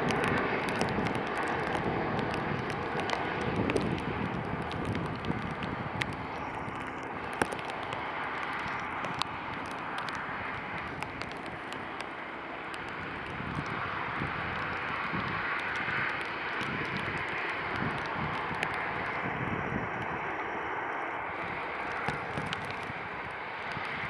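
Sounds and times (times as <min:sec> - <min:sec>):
faint clicks: 0:00.0 - 0:24.0.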